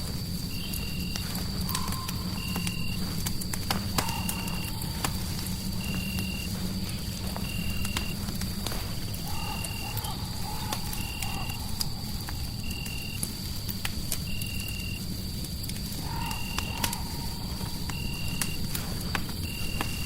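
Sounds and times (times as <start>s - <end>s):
fireplace crackling and popping: 0.0s - 20.0s.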